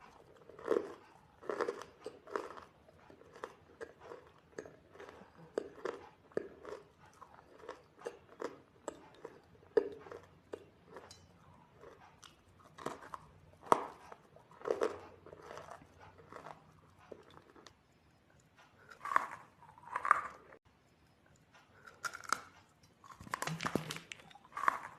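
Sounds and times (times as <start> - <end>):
person chewing crunchy food: 0.0 - 20.7, 21.3 - 24.9.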